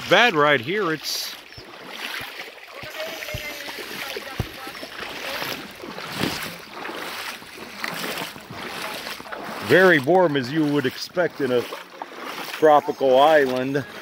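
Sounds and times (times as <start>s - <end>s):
water sloshing around wading legs: 0.0s - 14.0s.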